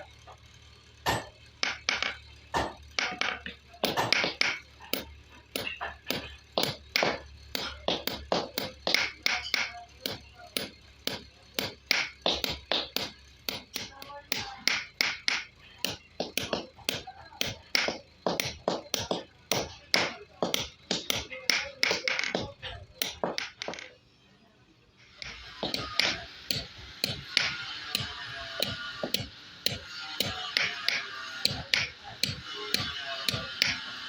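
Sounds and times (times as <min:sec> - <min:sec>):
hammer striking steel: 0:01.0 - 0:24.0, 0:25.0 - 0:34.0.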